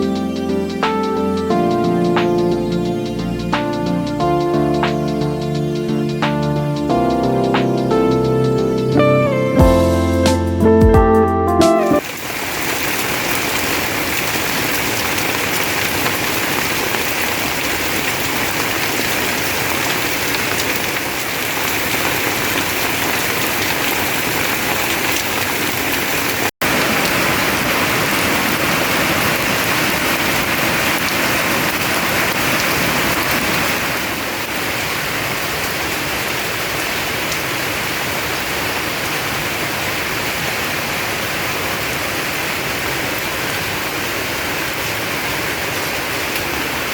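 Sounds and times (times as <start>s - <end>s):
heavy rain pouring: 0.0s - 10.2s, 11.8s - 46.9s.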